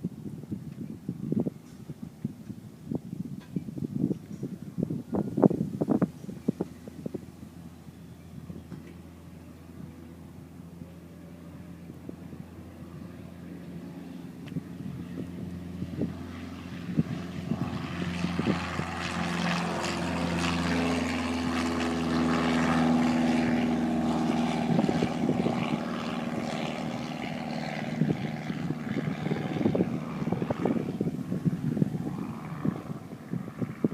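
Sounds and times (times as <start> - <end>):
propeller aircraft engine droning: 0.0 - 33.9.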